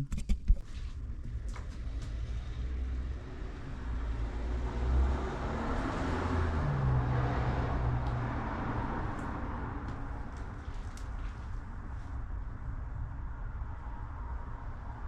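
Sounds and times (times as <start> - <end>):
car driving past: 1.7 - 15.0.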